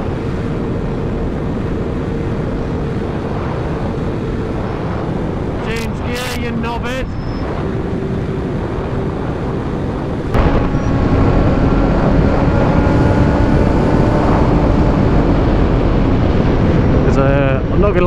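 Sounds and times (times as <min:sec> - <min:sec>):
motorcycle engine drone: 0:00.0 - 0:18.0
wind rushing: 0:00.0 - 0:18.0.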